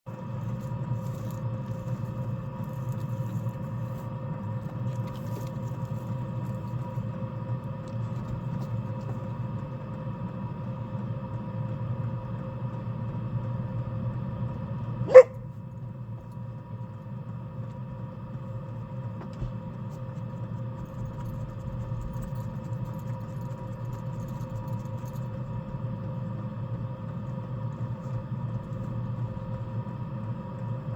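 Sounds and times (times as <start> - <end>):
diesel heater humming: 0.1 - 30.9.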